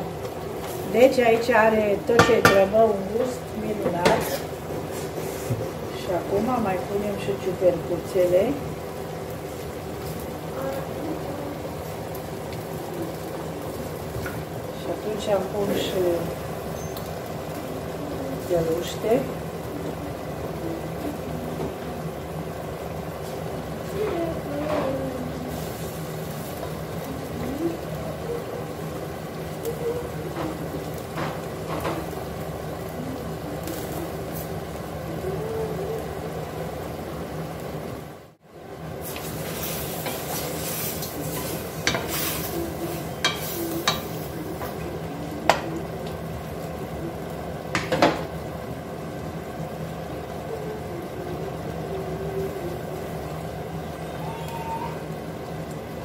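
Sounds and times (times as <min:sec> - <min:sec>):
food sizzling in a pot: 0:00.0 - 0:56.0.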